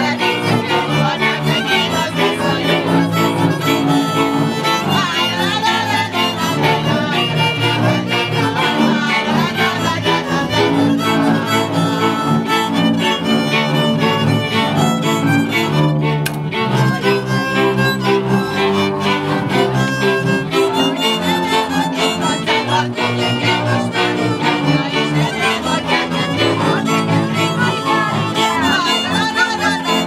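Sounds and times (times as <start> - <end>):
bowed double bass: 0.0 - 30.0
violins playing folk melody: 0.0 - 30.0.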